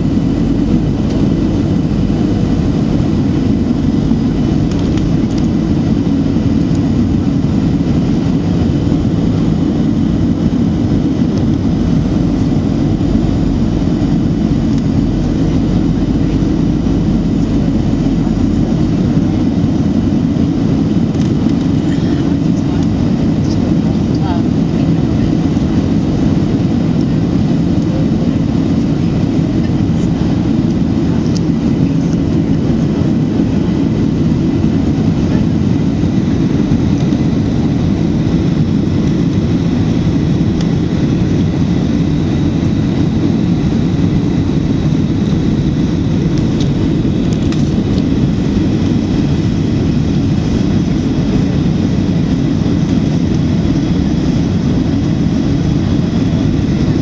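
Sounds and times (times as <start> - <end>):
airflow rush: 0.0 - 57.0
jet engine drone: 0.0 - 57.0.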